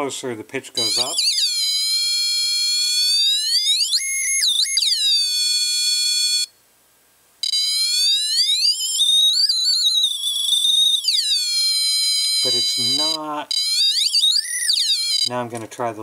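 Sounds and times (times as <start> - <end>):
buzzy electronic theremin tone: 0.8 - 6.5, 7.4 - 15.3.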